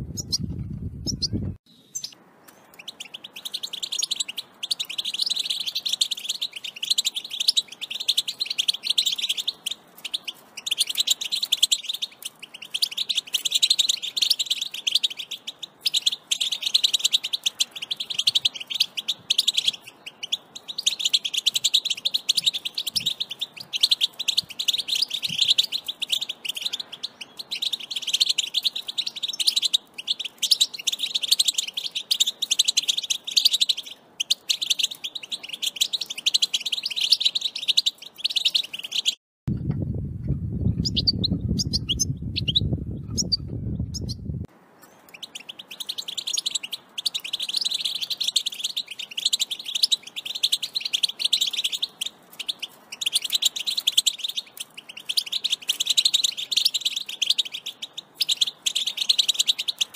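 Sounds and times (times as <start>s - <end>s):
goldfinch twittering song: 0.0s - 39.2s, 40.6s - 59.9s.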